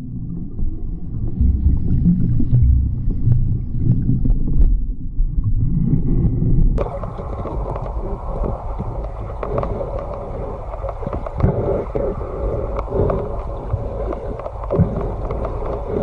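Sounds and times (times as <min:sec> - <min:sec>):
underwater rumble of water: 0:00.0 - 0:16.0.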